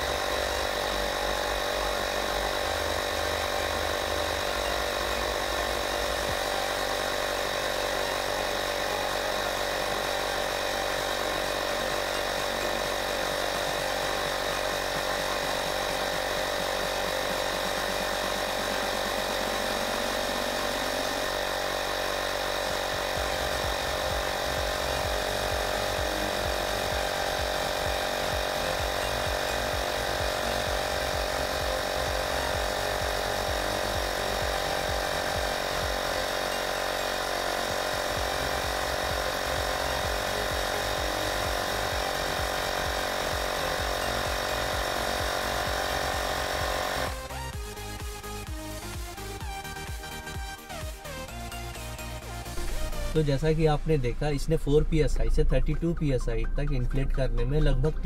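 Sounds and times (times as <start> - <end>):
electric air compressor humming: 0.0 - 58.0.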